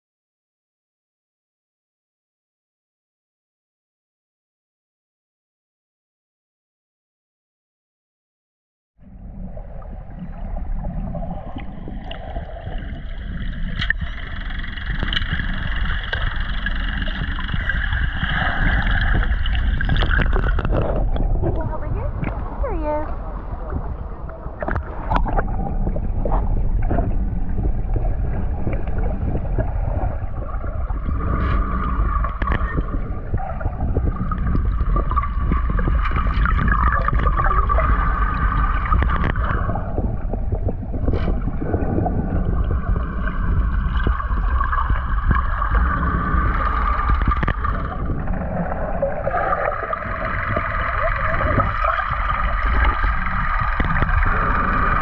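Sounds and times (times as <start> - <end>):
boat motor hum underwater: 9.0 - 55.0
gurgling water: 9.0 - 55.0.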